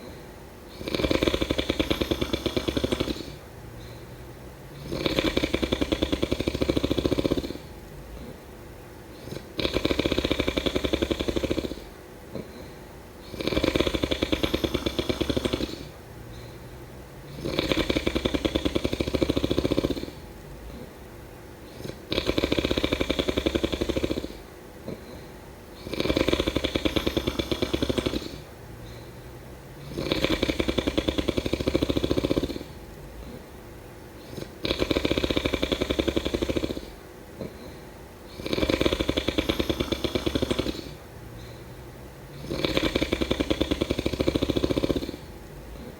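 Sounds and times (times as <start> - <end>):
quiet breaths: 0.0 - 45.9
person snoring: 0.7 - 3.4, 4.7 - 8.4, 9.1 - 16.6, 17.3 - 20.9, 21.6 - 29.1, 29.8 - 33.4, 34.2 - 41.7, 42.3 - 45.9.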